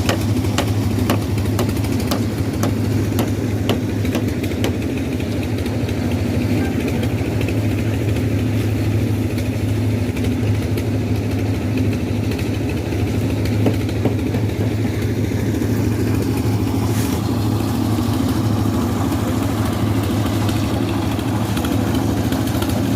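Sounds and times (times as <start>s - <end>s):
heavy equipment engine running: 0.0s - 22.9s.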